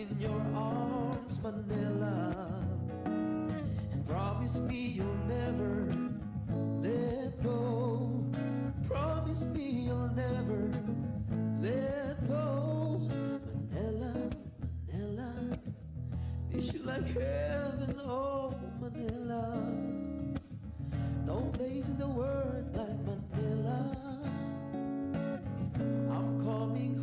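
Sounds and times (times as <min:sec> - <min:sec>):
song with guitar and singing: 0:00.0 - 0:27.0.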